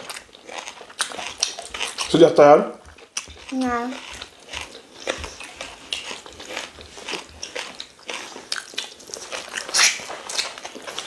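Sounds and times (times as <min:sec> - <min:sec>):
chewing and mouth smacks: 0:00.0 - 0:11.0.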